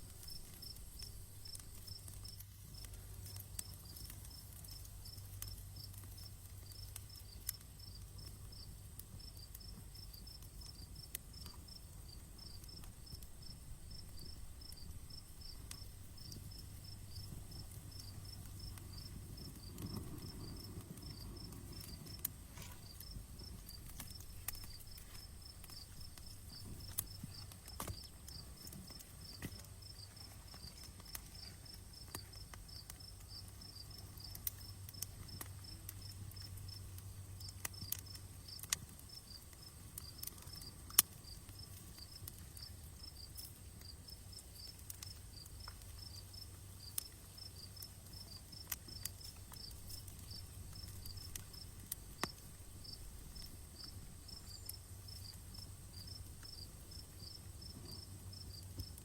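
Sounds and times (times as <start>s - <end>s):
insects chirping: 0.0s - 59.0s
wood fire crackling and popping: 0.0s - 59.0s.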